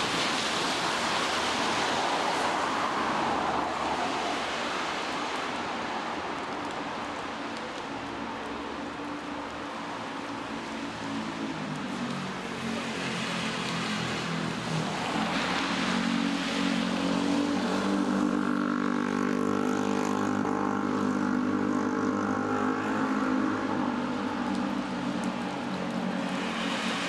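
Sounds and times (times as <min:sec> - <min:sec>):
rain on wet road: 0:00.0 - 0:27.0.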